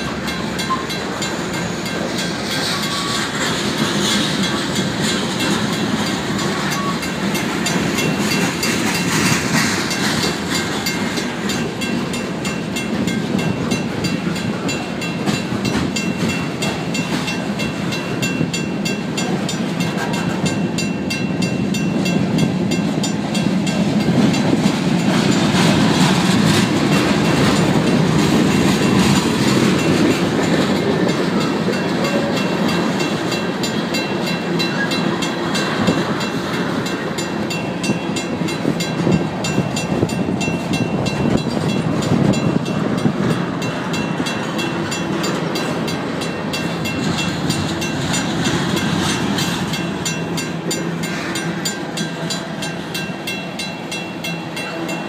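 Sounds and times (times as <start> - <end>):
crossing signal bell ringing: 0.0 - 55.0
freight train wheels rumbling: 0.0 - 55.0.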